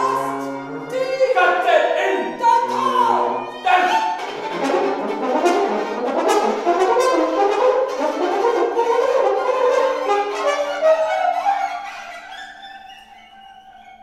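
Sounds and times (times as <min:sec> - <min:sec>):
violin and french horn duo: 0:00.0 - 0:11.9.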